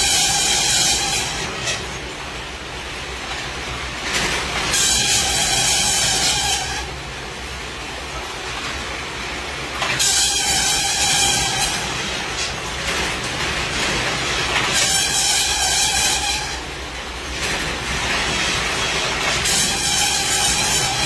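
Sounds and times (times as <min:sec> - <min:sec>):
loud machine hissing: 0:00.0 - 0:21.0.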